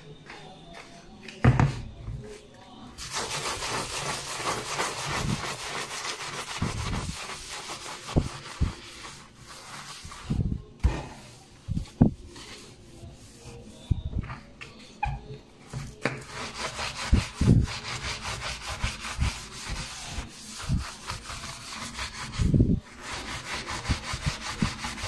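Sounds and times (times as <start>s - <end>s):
steel wool scrubbing countertop: 3.0s - 25.0s.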